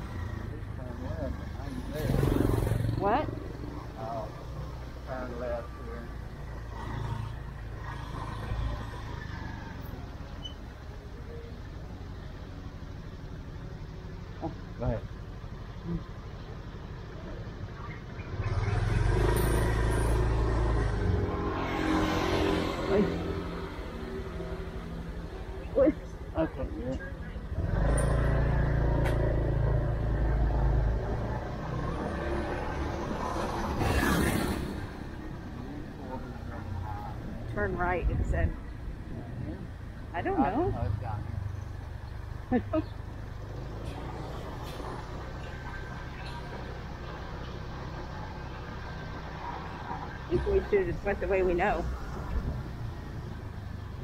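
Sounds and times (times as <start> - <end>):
road and wind noise: 0.0 - 54.0.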